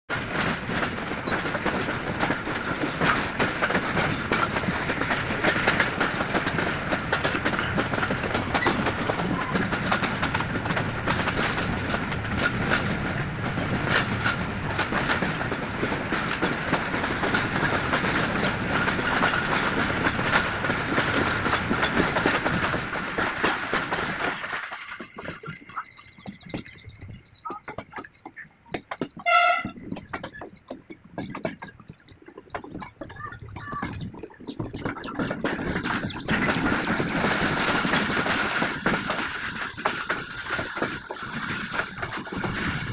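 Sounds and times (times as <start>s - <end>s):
train rumbling: 0.1s - 42.9s
wheels clattering over rail joints: 0.1s - 42.9s.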